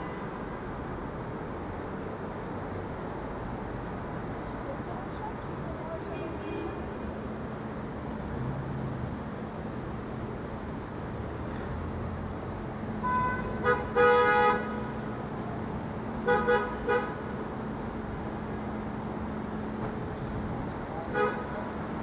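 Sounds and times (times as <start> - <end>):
street traffic: 0.0 - 22.0.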